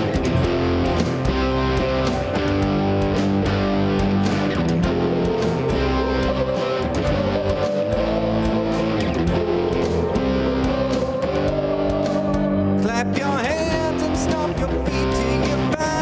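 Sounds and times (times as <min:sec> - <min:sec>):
live band playing upbeat music: 0:00.0 - 0:16.0.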